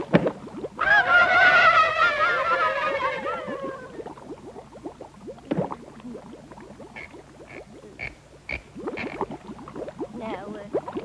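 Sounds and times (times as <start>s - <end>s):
cartoon underwater bubbling: 0.0s - 11.0s.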